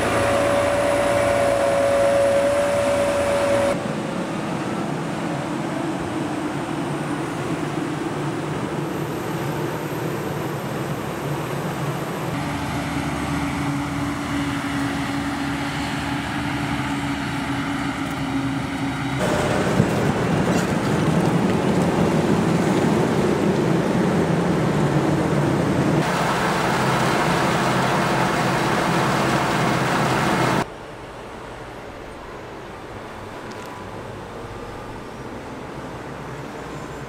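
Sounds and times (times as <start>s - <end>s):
tractor diesel engines running: 0.0s - 37.0s.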